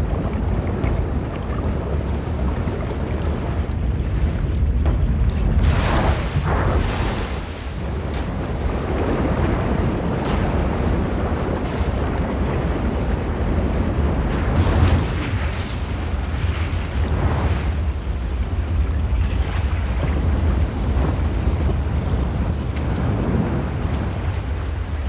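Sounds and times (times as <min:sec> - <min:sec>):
water splashes: 0:00.0 - 0:25.0.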